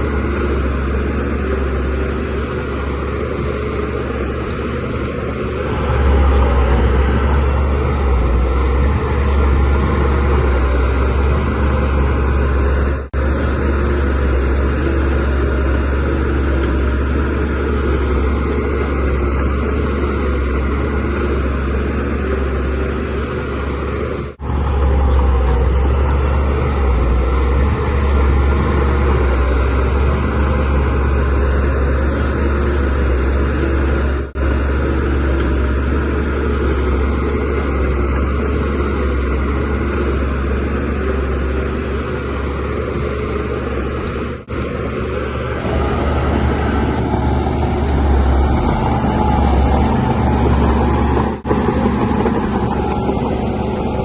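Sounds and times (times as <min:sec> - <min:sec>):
bulldozer diesel engine rumbling: 0:00.0 - 0:54.0.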